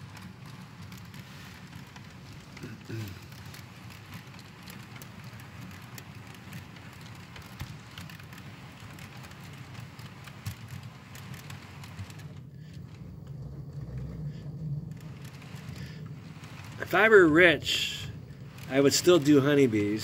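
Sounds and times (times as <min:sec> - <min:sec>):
model train rumbling: 0:00.0 - 0:20.0
wheels clicking over rail joints: 0:00.0 - 0:20.0.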